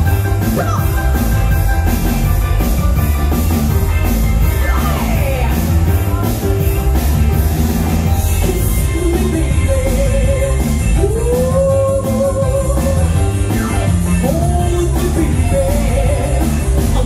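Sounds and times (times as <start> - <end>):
drum-kit beat: 0.0 - 17.0
live rock band playing: 0.0 - 17.0.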